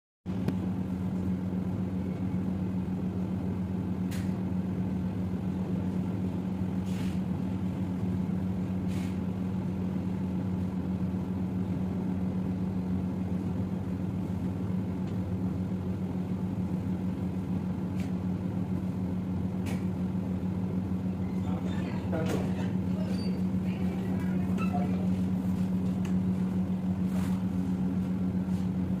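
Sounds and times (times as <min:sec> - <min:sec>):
steady machine hum: 0:00.3 - 0:29.0.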